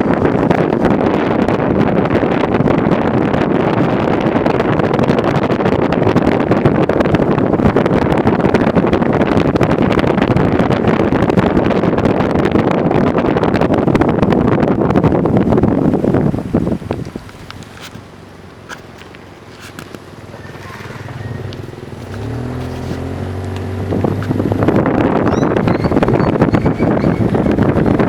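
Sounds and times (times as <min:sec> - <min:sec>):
vehicle rumbling on rough road: 0:00.0 - 0:28.0
wind buffeting microphone: 0:00.0 - 0:28.0.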